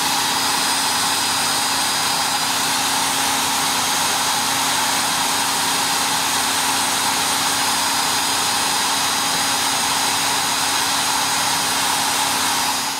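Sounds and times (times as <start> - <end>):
drill motors whirring: 0.0 - 12.9.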